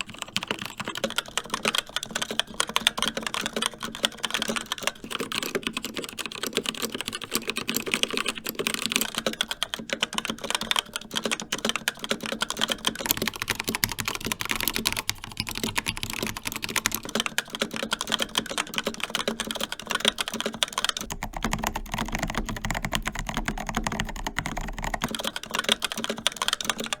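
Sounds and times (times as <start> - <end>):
fast typing on mechanical keyboard: 0.0 - 27.0.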